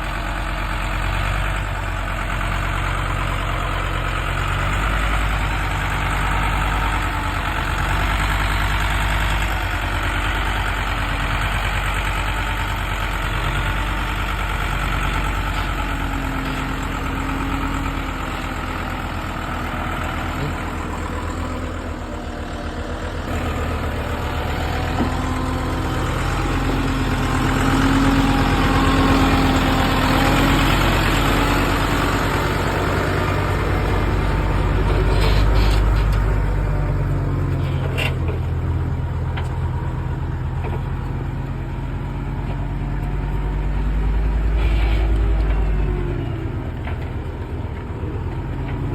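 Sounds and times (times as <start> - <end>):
heavy diesel engine running: 0.0 - 48.9.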